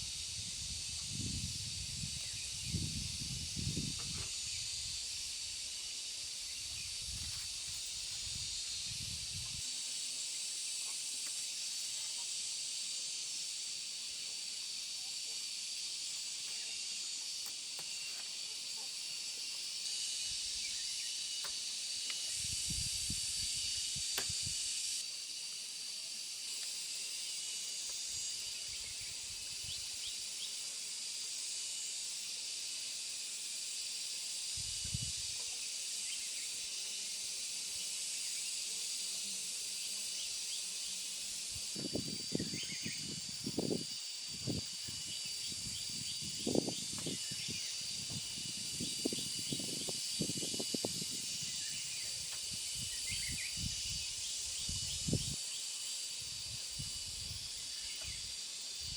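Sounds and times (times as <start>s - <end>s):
shrill insect chorus: 0.0s - 58.9s.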